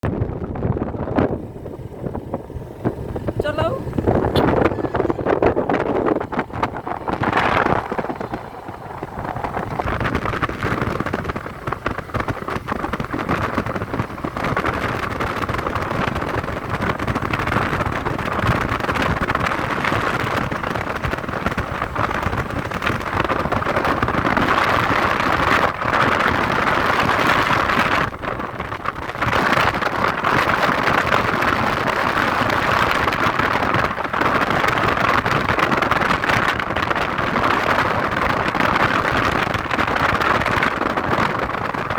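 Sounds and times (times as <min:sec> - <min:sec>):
vehicle rushing along road: 0:00.0 - 0:41.9
wind on microphone: 0:00.0 - 0:41.9.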